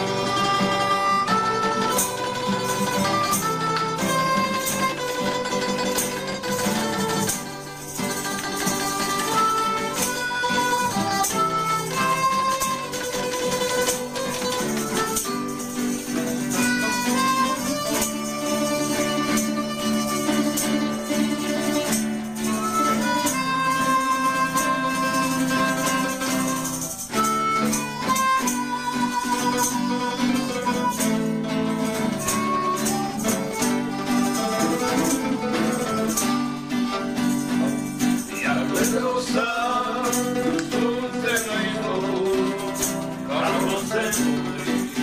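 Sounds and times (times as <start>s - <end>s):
harmonica melody: 0.0s - 45.0s
strummed acoustic guitar: 0.0s - 45.0s
tambourine jingling: 0.0s - 45.0s.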